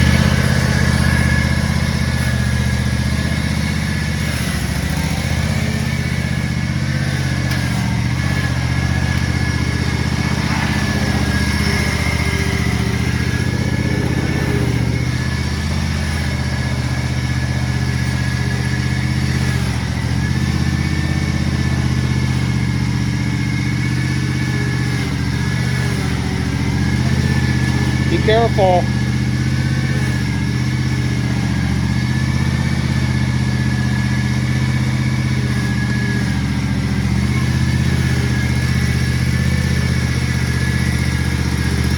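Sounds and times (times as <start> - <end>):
riding mower engine running: 0.0 - 41.9.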